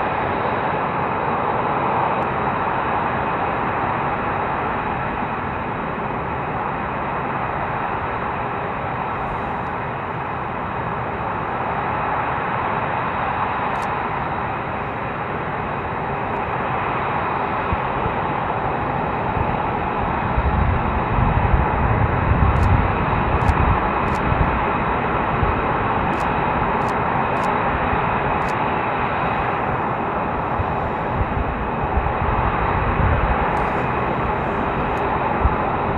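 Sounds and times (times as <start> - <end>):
jet engines taxiing: 0.0 - 35.9.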